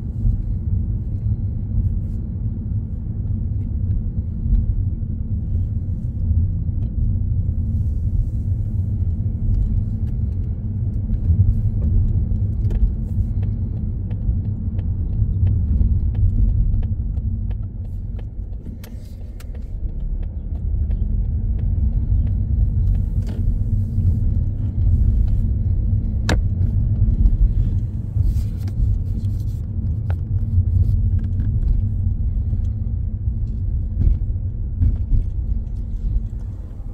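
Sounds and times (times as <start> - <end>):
car rumbling from inside cabin: 0.0 - 36.9.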